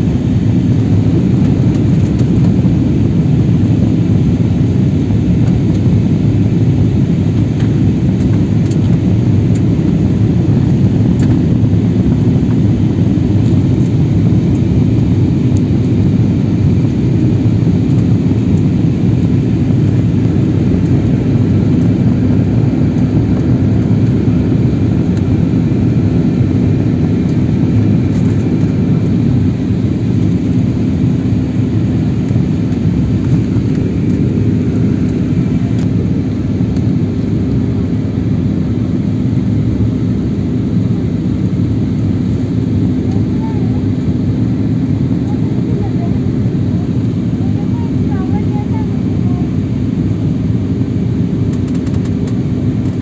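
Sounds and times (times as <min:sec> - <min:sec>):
jet airliner cabin noise: 0:00.0 - 0:53.0.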